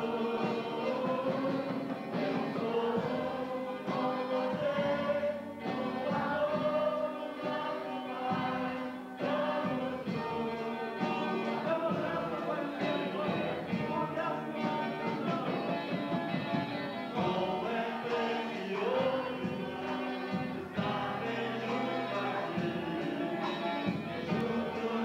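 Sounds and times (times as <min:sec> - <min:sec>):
choir singing a hymn: 0:00.0 - 0:25.0
instrumental accompaniment: 0:00.0 - 0:25.0.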